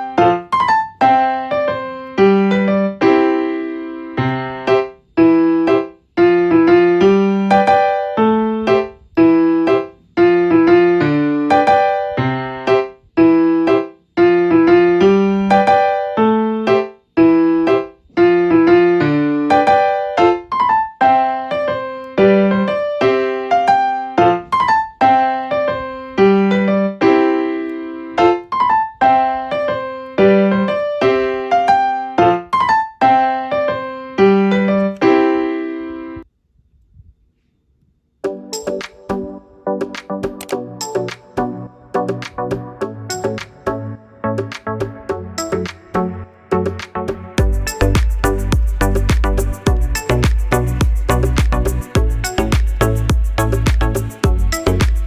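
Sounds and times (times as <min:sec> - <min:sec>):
light piano tune: 0:00.0 - 0:36.2, 0:38.2 - 0:55.0.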